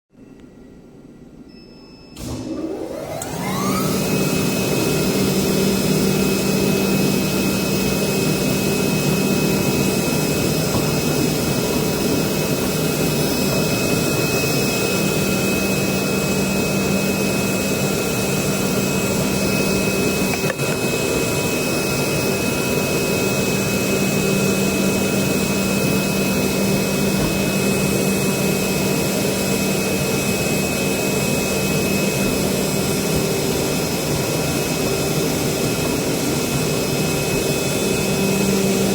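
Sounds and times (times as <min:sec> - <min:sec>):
cutting machine whine: 0:02.1 - 0:38.9.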